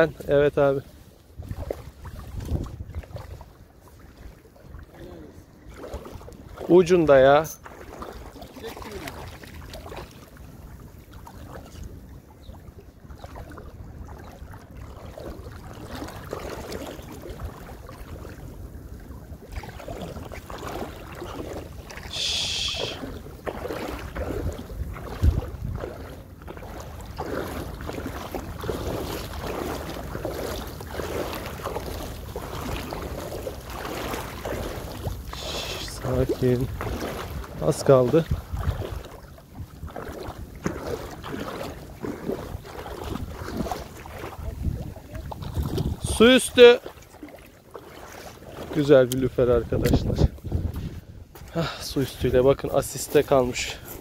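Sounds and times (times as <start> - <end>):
water splashing: 0.0 - 54.0
wind on microphone: 1.3 - 5.2, 9.2 - 46.6, 49.2 - 51.6.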